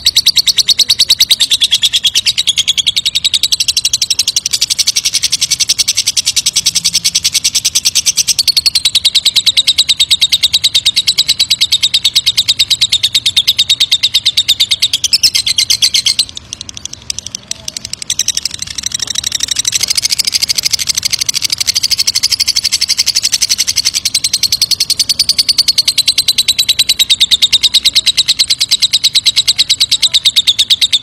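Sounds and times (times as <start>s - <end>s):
lovebird chattering trill: 0.0s - 31.0s.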